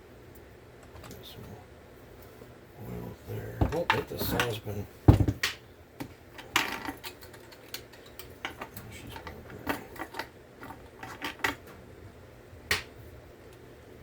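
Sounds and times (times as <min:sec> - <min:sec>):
wood stove crackling and popping: 0:00.0 - 0:01.3, 0:02.0 - 0:14.0.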